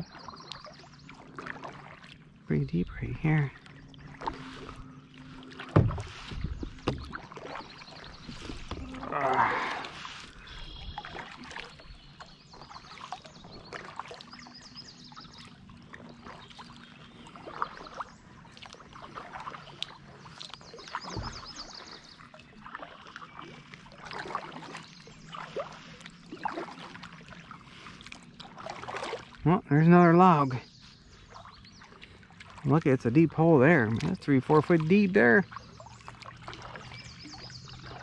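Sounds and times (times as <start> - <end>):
water splashing and dripping: 0.0 - 30.6, 31.2 - 38.0
paddle splashes: 0.0 - 38.0.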